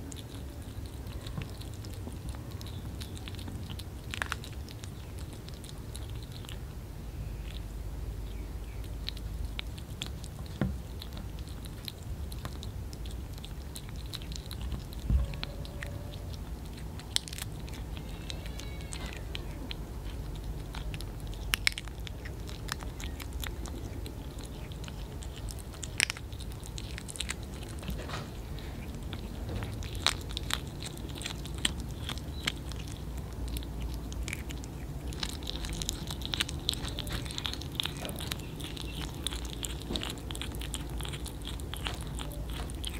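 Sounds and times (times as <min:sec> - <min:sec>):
kittens chewing fish: 0:00.0 - 0:42.9.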